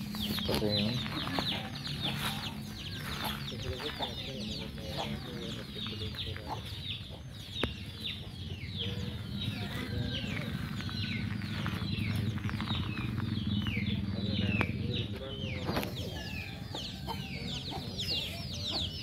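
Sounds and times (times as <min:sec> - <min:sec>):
birds peeping: 0:00.0 - 0:19.0.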